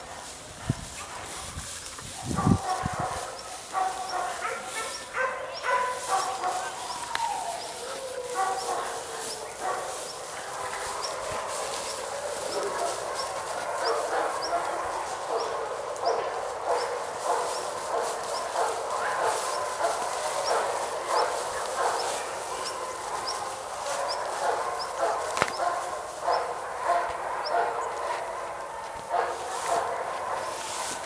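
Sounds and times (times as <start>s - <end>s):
dogs barking: 0.0s - 31.0s.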